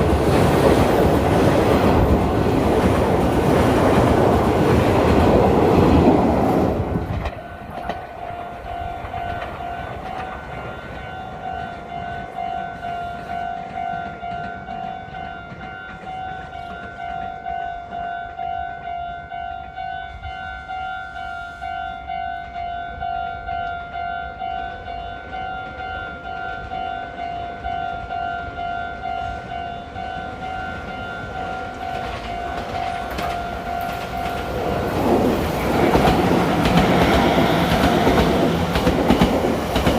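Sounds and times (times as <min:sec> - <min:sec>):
train rumble: 0:00.0 - 0:18.5, 0:24.7 - 0:39.9
level crossing warning bell: 0:07.1 - 0:39.9.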